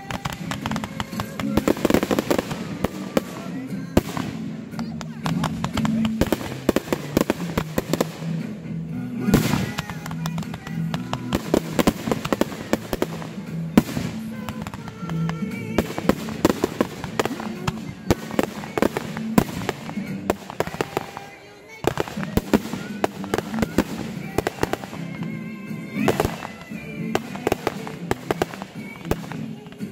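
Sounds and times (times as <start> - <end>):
fireworks bangs and crackles: 0.0 - 29.9
music playing: 0.0 - 29.9.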